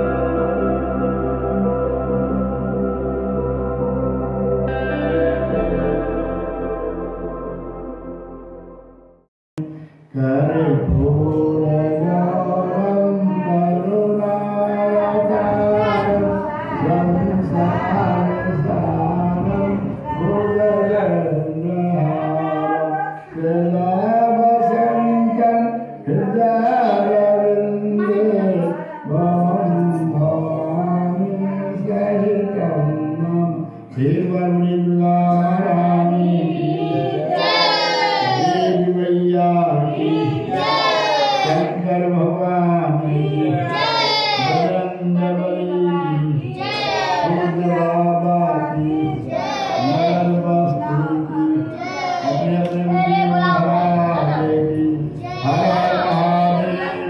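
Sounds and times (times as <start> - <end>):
elderly man singing: 10.1 - 57.0.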